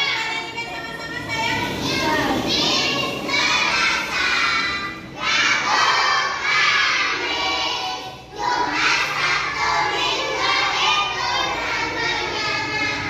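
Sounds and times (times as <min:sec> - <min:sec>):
children shouting: 0:01.2 - 0:13.0.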